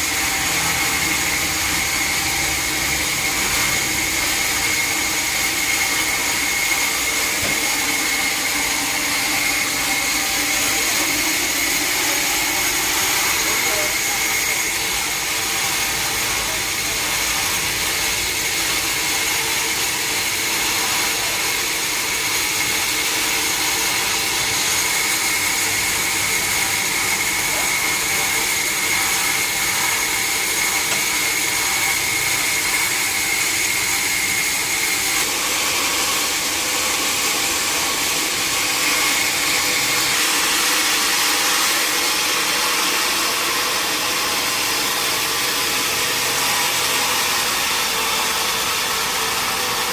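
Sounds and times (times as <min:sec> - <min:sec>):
sawmill saw cutting log: 0:00.0 - 0:49.9.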